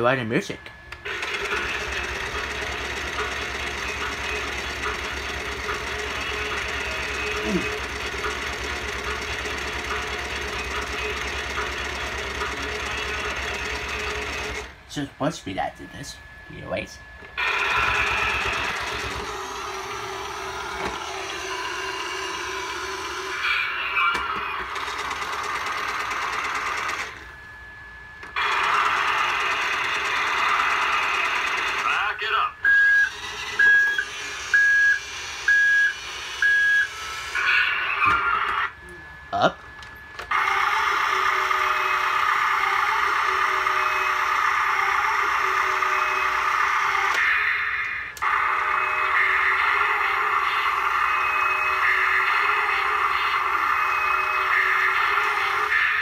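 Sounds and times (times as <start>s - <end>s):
toy engine idle sound effect: 1.0s - 14.7s, 17.4s - 27.2s, 28.4s - 38.7s, 40.3s - 56.0s.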